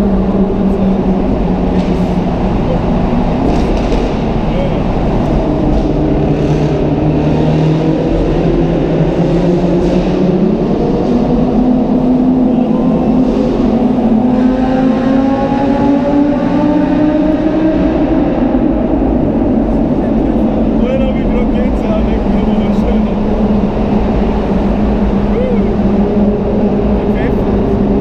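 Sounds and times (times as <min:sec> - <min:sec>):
car engine accelerating: 0:00.0 - 0:28.0
exhaust echoing in tunnel: 0:00.0 - 0:28.0.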